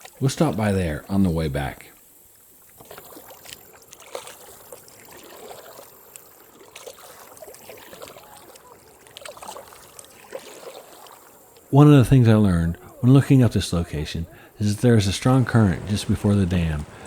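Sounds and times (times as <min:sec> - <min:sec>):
paddle splashes and drips: 0:00.0 - 0:17.0.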